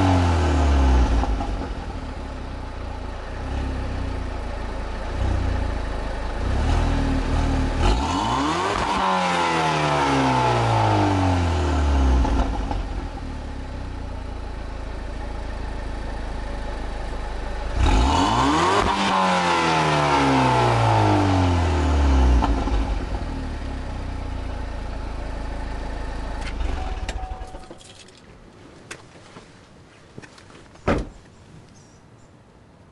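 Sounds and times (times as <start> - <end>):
car engine idling and revving: 0.0 - 28.1.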